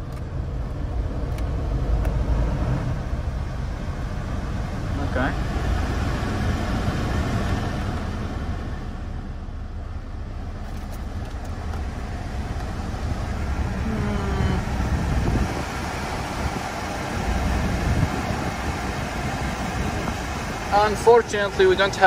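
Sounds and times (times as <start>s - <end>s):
blower fan blowing air: 0.0s - 9.2s, 9.8s - 22.0s
car engine idling: 0.0s - 22.0s.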